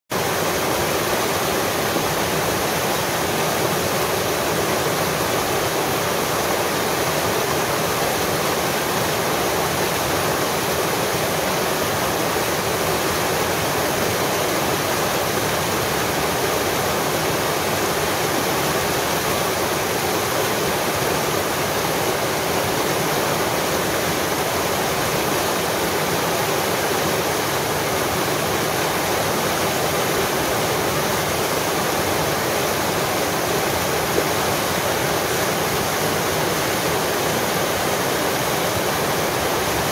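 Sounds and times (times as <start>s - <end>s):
stream water rushing over rocks: 0.1s - 39.9s.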